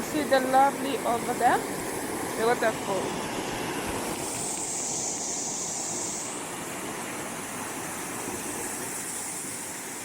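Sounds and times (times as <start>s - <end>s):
waterfall pouring into stream: 0.0s - 10.0s.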